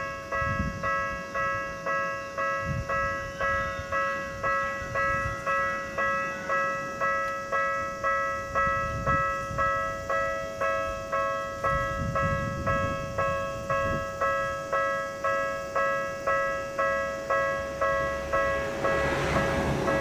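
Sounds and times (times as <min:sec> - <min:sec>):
electronic crossing bell clanging: 0:00.0 - 0:20.0.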